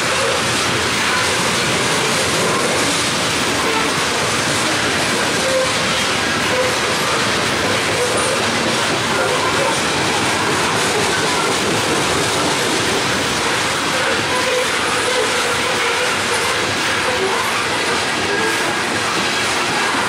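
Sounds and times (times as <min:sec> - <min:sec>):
freight train wheels rumbling: 0:00.0 - 0:20.0
train wheel squeals: 0:00.0 - 0:20.0.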